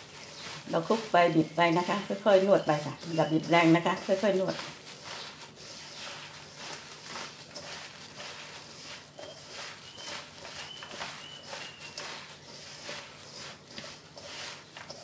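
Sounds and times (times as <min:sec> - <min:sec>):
leaves rustling and squishing: 0:00.0 - 0:15.0.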